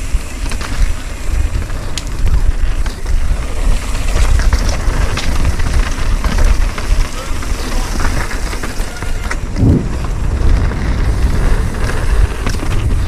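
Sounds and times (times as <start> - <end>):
bike chain and frame rattling: 0.0 - 13.0
bike tyres rolling over dirt: 0.0 - 13.0
wind rumble on microphone: 0.0 - 13.0.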